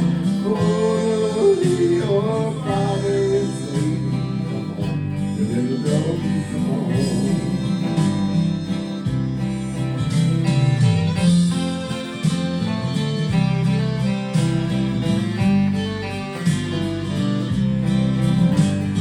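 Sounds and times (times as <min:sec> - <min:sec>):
country gospel backing track: 0:00.0 - 0:19.0
guitar playing: 0:00.0 - 0:19.0.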